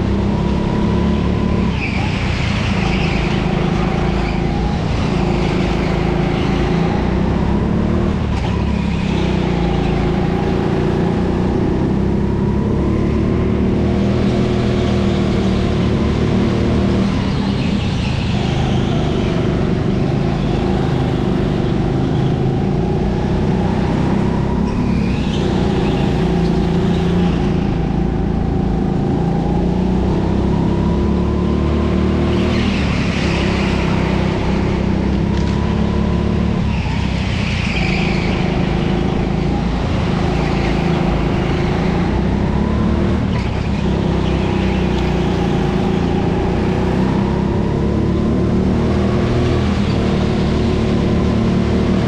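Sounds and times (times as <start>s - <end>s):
kart engine running hard: 0.0s - 52.0s.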